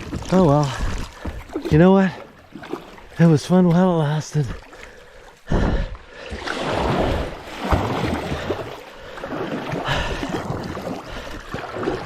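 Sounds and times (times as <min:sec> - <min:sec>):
river water rushing and splashing: 0:00.0 - 0:12.0.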